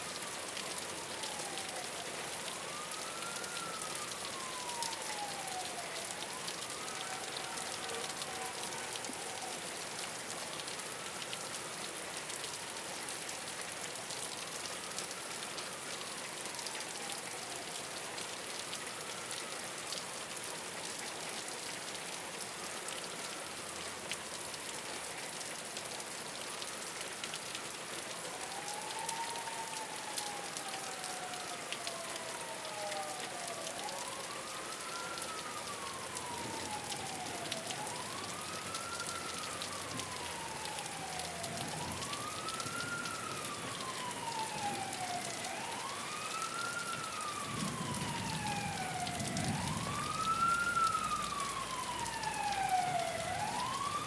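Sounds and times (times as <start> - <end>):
emergency vehicle siren wailing: 0.0 - 54.0
rain on a rooftop: 0.0 - 54.0.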